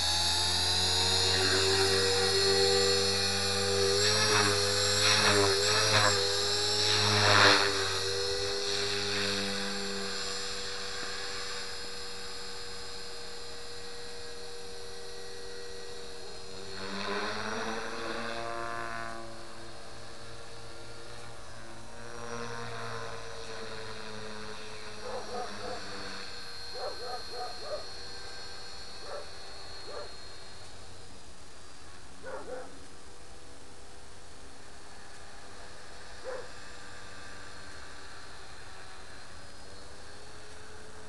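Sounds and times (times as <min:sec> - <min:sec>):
rc helicopter whine: 0:00.0 - 0:41.0.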